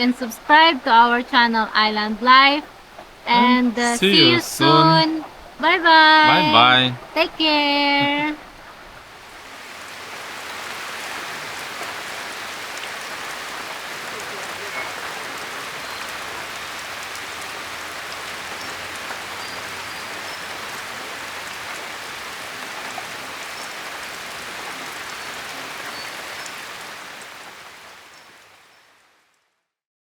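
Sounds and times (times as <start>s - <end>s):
heavy rain: 0.0s - 29.4s.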